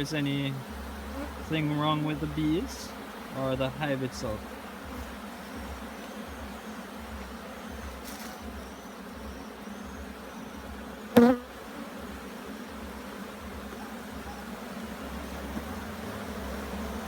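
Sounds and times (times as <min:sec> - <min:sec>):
bees buzzing around hive: 0:00.0 - 0:17.0
loud bee buzz close by: 0:00.0 - 0:17.0.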